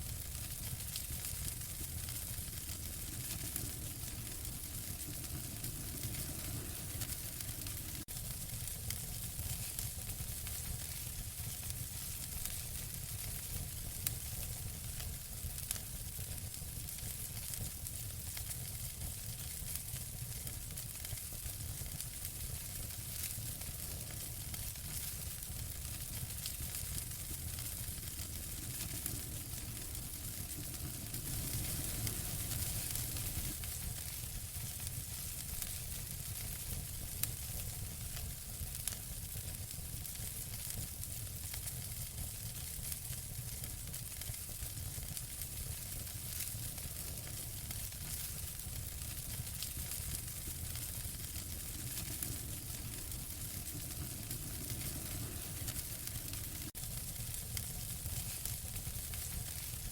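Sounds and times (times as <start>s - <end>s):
fire crackles and pops: 0.0s - 59.9s
wood fire hissing and rumbling: 0.0s - 59.9s.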